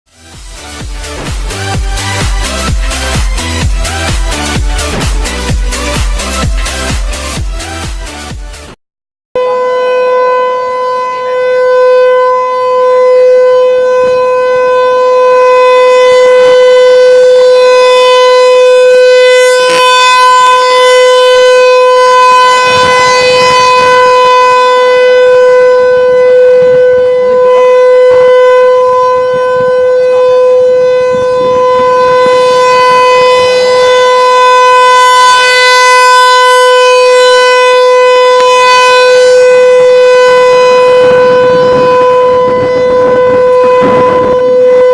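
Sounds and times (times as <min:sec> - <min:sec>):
warning siren steady tone: 0:00.1 - 0:08.4, 0:09.4 - 0:44.9.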